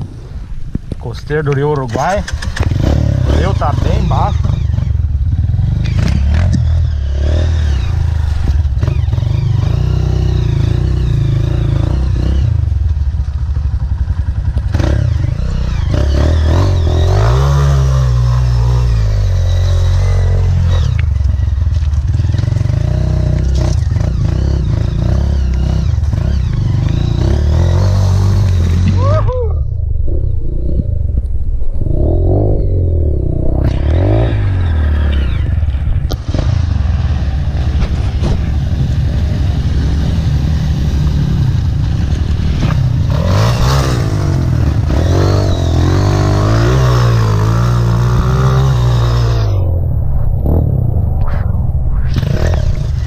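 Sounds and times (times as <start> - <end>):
motorbike engine revving: 1.8 - 29.2, 31.8 - 53.0.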